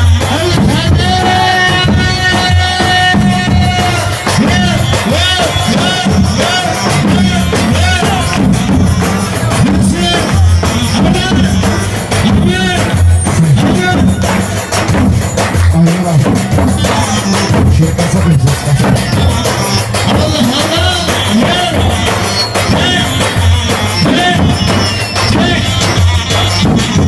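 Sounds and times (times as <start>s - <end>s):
bass drum beaten with stick: 0.0s - 27.0s
high bending melody: 0.0s - 27.0s.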